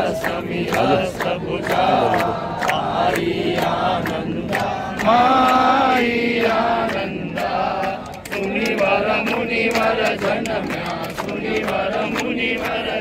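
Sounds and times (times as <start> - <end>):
crowd singing a hymn: 0.0 - 13.0.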